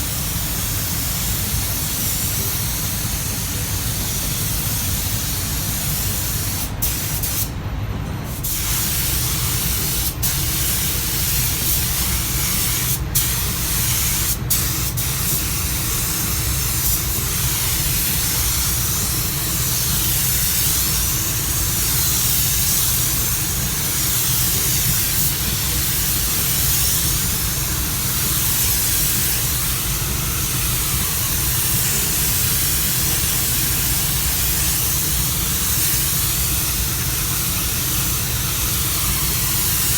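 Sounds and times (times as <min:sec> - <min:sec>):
spray gun hissing: 0:00.0 - 0:07.5, 0:08.3 - 0:39.9.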